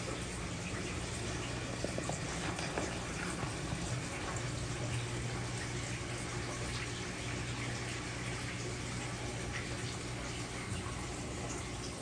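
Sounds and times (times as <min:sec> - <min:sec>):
pump hum: 0:00.0 - 0:12.0
water running and splashing: 0:00.0 - 0:12.0.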